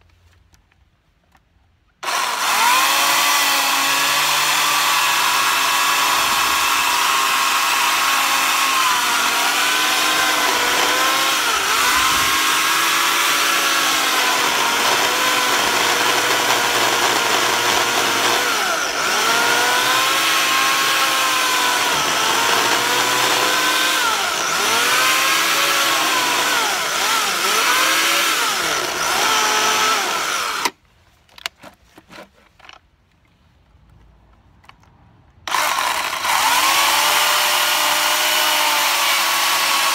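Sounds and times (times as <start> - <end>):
chainsaw cutting log: 2.0 - 30.8, 35.5 - 39.9.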